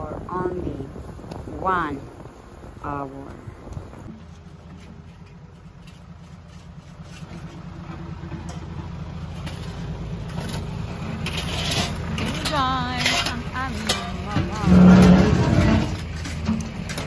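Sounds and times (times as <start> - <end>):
diesel engines running at low revs: 0.0 - 17.0.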